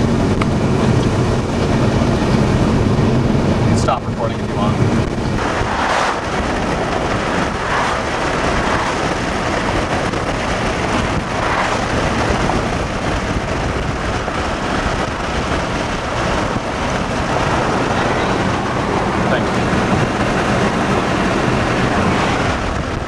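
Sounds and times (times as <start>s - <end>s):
car interior wind and road rumble: 0.0s - 23.0s.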